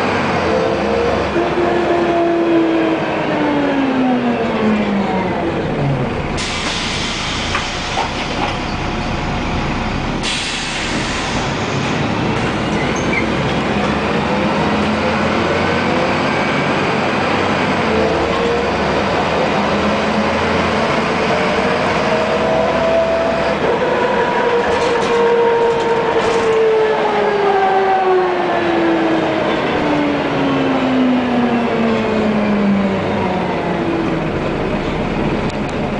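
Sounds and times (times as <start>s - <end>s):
bus engine and road noise: 0.0s - 35.9s.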